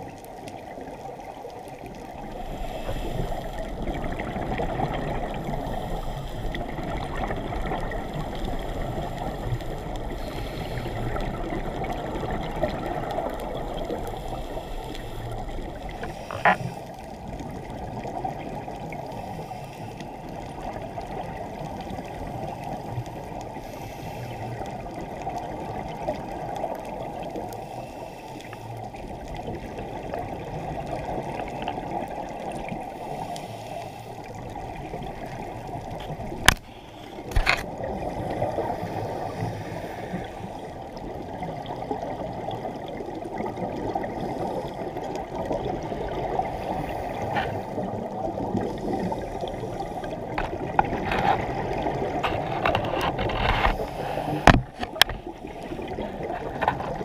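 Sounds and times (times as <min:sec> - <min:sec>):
muffled underwater rush: 0:00.0 - 0:57.0.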